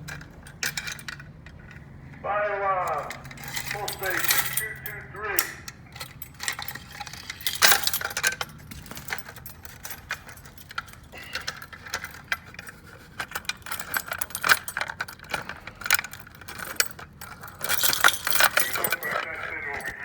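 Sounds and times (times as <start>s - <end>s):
keys jangling: 0.0s - 2.2s, 2.8s - 20.0s.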